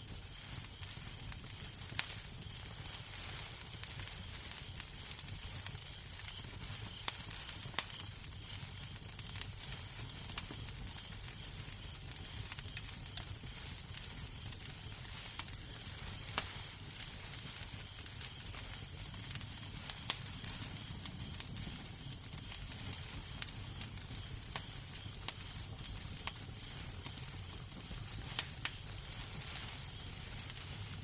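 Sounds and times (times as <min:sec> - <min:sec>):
fire crackling and popping: 0:00.0 - 0:31.0
fire hissing: 0:00.0 - 0:31.0.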